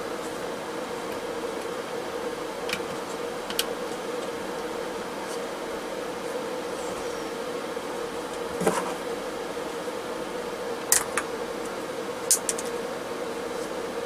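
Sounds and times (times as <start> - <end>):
steady buzzing hum: 0.0 - 14.0.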